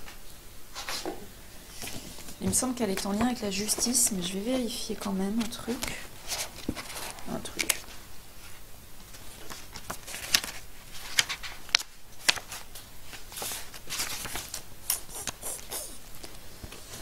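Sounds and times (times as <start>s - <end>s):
book pages being leafed through: 1.7s - 17.0s.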